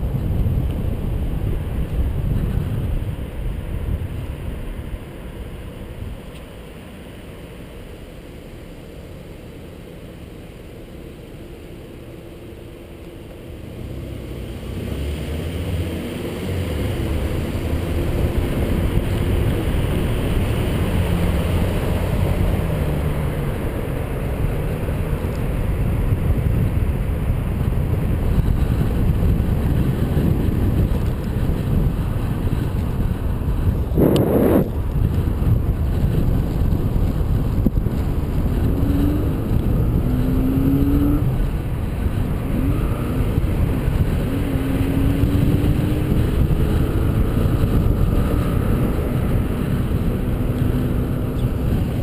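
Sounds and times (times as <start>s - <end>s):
wind rushing over microphone: 0.0s - 6.5s, 13.5s - 52.0s
passing car engine hum: 0.0s - 52.0s
road noise: 0.0s - 52.0s.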